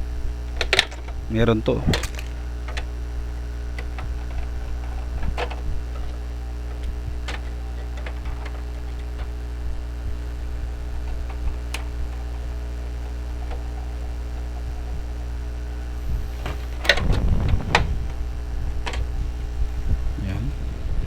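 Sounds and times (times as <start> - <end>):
steady low hum: 0.0 - 21.0
hard plastic clicks and knocks: 0.5 - 2.9, 3.7 - 15.2, 16.1 - 19.3.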